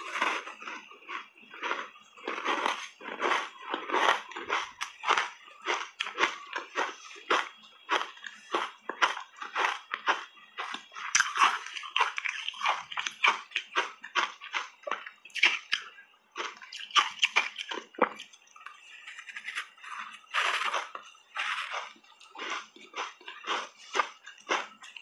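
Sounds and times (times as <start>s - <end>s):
wet chewing and lip smacking: 0.0s - 25.0s.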